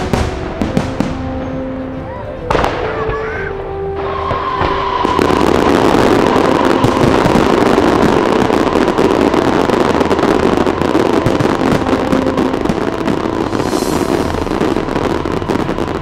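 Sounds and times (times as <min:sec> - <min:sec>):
fireworks crackling: 0:00.0 - 0:01.7, 0:02.5 - 0:16.0.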